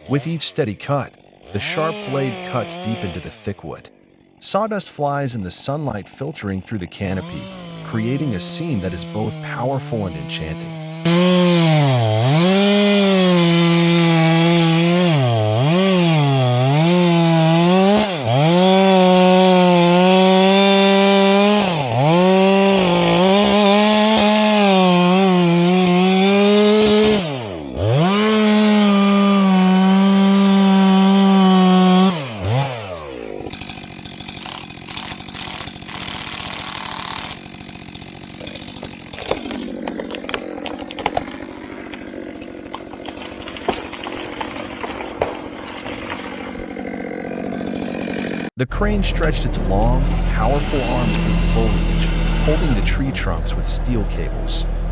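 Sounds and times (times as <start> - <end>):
chainsaw cutting wood: 0.0 - 4.7, 5.6 - 54.9.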